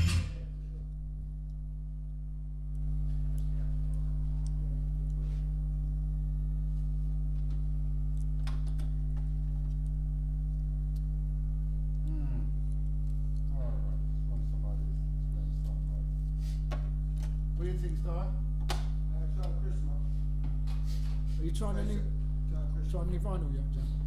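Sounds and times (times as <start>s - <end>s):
speaker electrical hum: 0.0s - 24.0s.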